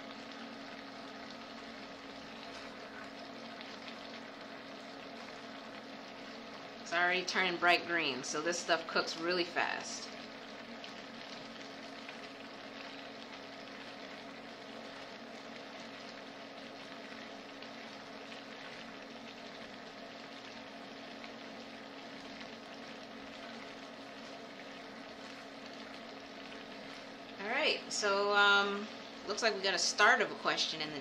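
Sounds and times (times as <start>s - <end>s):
kale sizzling in a frying pan: 0.0s - 31.0s
steady low hum: 0.0s - 31.0s.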